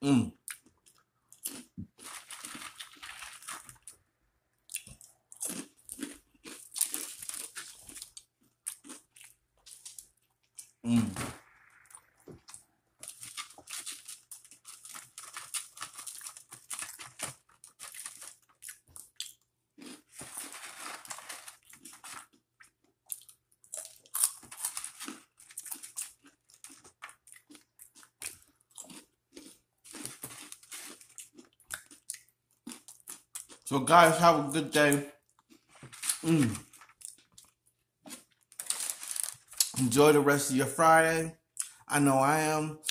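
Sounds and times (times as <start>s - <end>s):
person chewing and crunching food: 0.0s - 40.1s, 41.4s - 42.1s.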